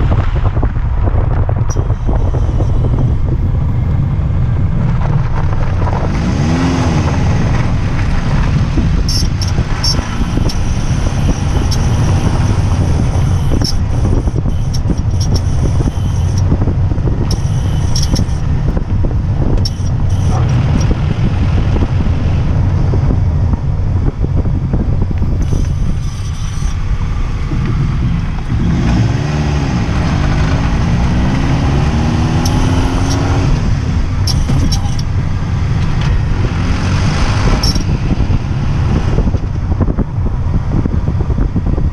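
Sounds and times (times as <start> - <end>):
car engine droning: 0.0 - 41.9.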